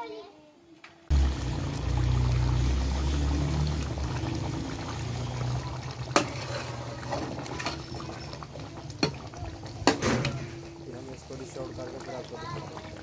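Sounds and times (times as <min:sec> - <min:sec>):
sauce bubbling in a pan: 0:01.1 - 0:13.0.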